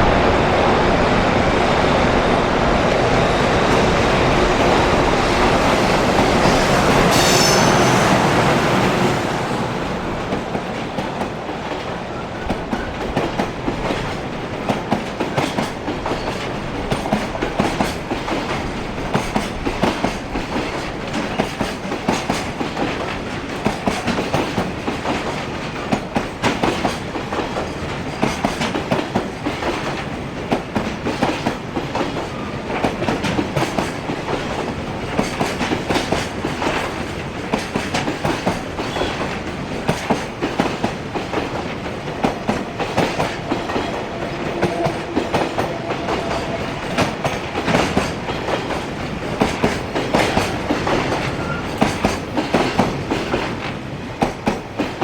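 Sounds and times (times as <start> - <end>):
freight train passing: 0.0 - 55.0
wheels clacking over rail joints: 9.7 - 55.0.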